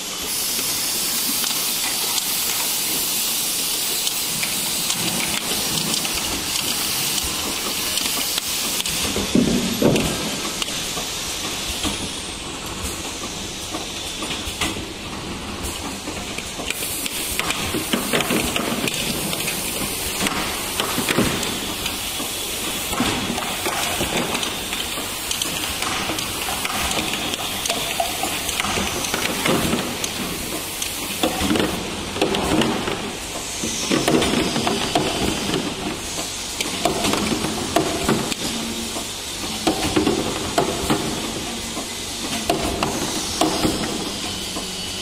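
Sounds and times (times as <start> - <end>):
machine hiss: 0.0 - 45.0
machinery clicks and knocks: 4.0 - 44.8.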